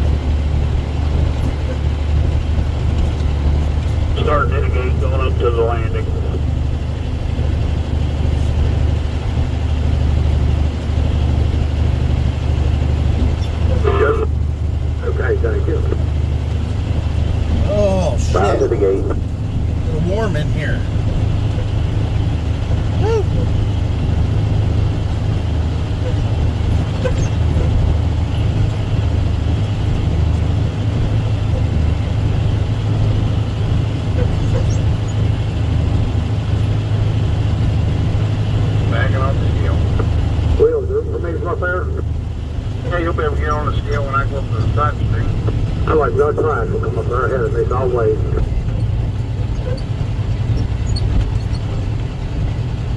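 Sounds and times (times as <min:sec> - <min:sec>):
diesel engine drone from cab: 0:00.0 - 0:52.9.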